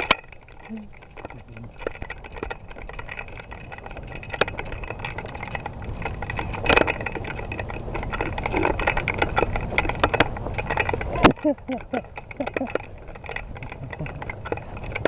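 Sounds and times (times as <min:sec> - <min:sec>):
gear and brush rattling: 0:00.0 - 0:15.0
low handling rumble: 0:00.0 - 0:15.0.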